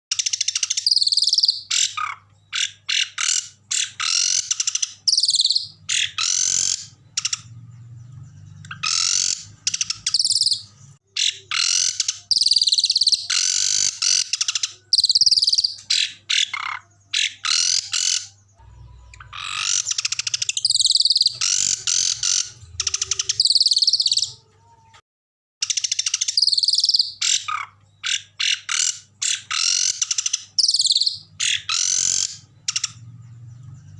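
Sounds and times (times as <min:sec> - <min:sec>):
songbird trills and chirps: 0:00.1 - 0:25.0, 0:25.6 - 0:33.9.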